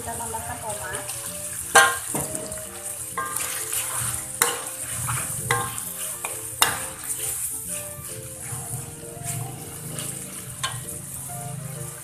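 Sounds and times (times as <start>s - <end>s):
food sizzling in hot oil: 0.0s - 12.0s
metal spatula scraping pan: 0.4s - 12.0s.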